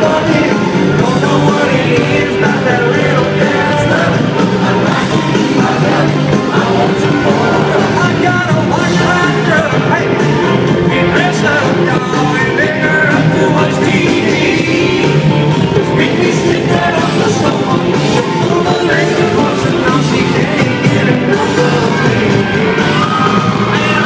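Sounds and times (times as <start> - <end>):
live country rock band: 0.0 - 24.0
man singing: 0.0 - 24.0.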